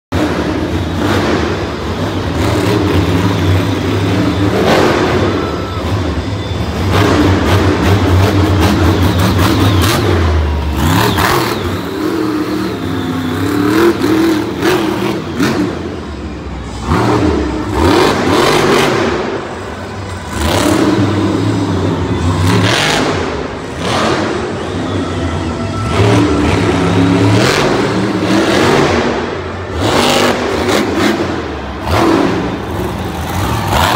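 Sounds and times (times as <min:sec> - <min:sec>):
monster truck engine revving: 0:00.1 - 0:33.9.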